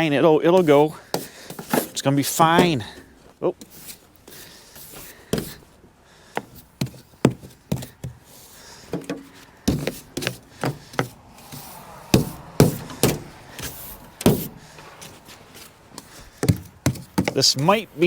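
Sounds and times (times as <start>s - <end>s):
snow brush sweeping and knocking: 0.5s - 5.7s, 6.4s - 18.0s.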